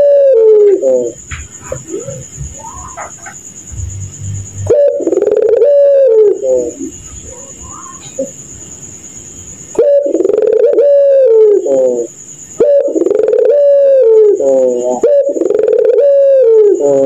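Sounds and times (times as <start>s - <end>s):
dove cooing: 0.0s - 8.5s, 9.8s - 17.0s.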